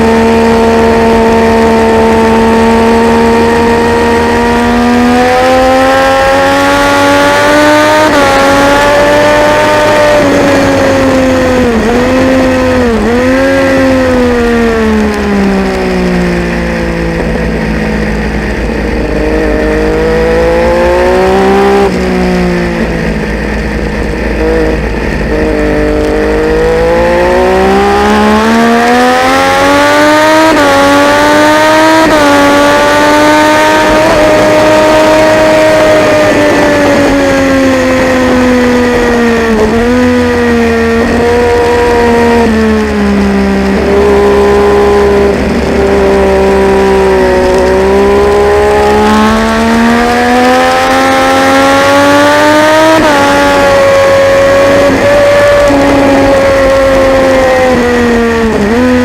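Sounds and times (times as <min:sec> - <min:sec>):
low wind rumble: 0:00.0 - 0:59.0
motorcycle engine revving through gears: 0:00.0 - 0:59.0.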